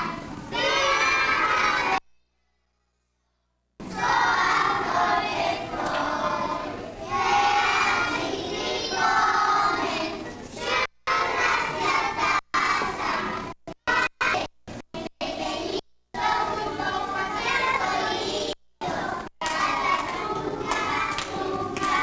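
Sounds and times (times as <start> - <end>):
children singing together: 0.0 - 2.0, 3.8 - 22.0.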